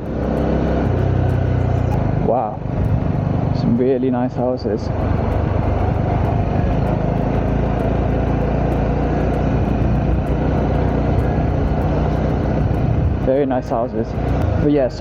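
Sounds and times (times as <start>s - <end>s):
motorcycle engine running: 0.0s - 15.0s
road noise: 0.0s - 15.0s
wind noise: 0.0s - 15.0s.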